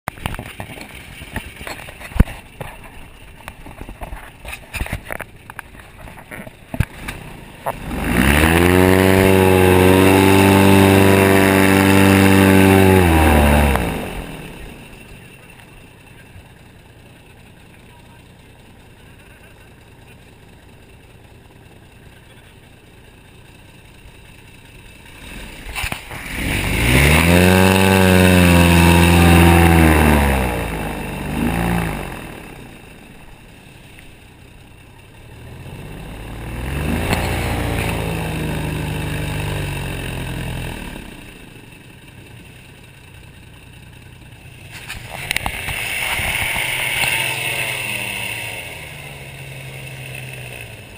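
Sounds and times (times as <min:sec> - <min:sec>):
airboat engine revving: 0:00.1 - 0:50.9.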